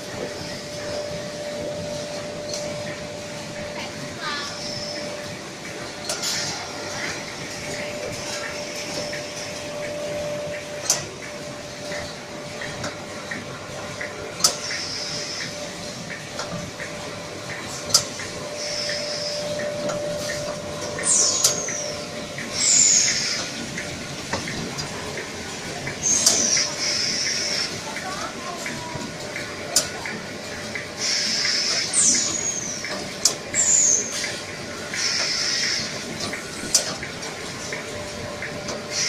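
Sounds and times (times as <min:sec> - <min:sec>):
steady mechanical hum: 0:00.0 - 0:39.0.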